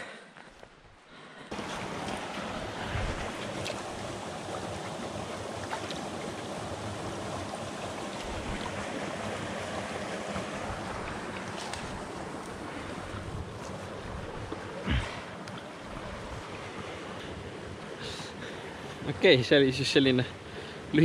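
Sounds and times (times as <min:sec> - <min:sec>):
creek water running: 0:00.6 - 0:21.0.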